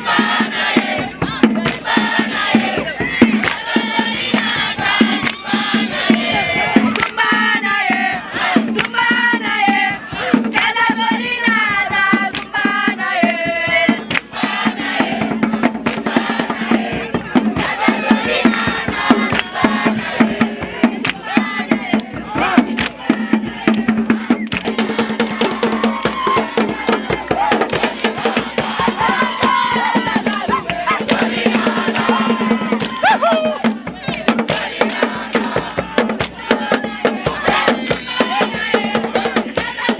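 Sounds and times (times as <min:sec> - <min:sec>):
group singing and chanting: 0:00.0 - 0:39.9
rhythmic percussion: 0:00.0 - 0:39.9.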